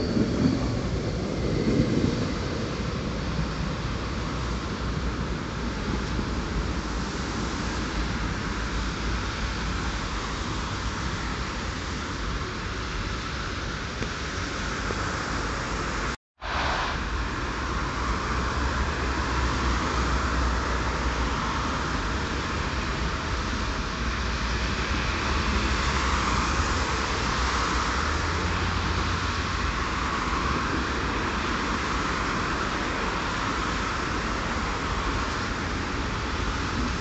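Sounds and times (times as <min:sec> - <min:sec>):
low traffic rumble: 0:00.0 - 0:37.0
tyres hissing on wet road: 0:00.0 - 0:37.0.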